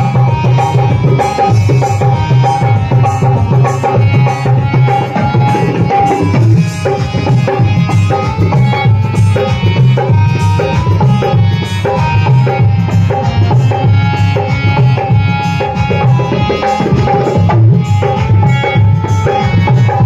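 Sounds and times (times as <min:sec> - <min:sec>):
hand drum beat: 0:00.0 - 0:20.0
heavy bass: 0:00.0 - 0:20.0
held melody line: 0:00.0 - 0:20.0.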